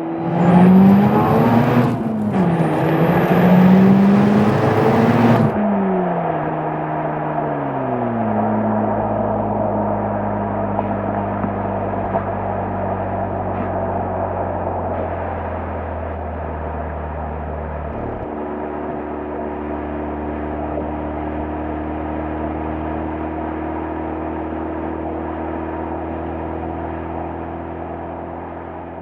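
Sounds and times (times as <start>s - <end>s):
rotary engine exhaust note: 0.0s - 5.9s, 8.9s - 26.8s.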